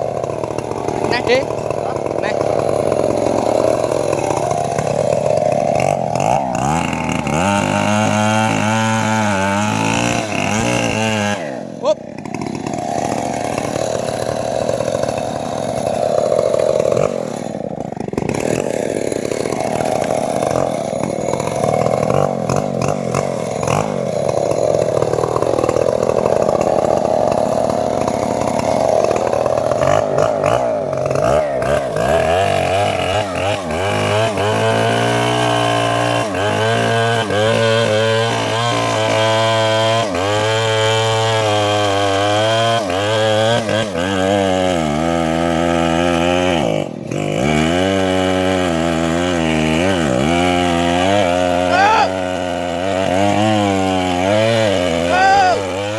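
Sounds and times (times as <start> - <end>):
petrol saw cutting wood: 0.0 - 55.9.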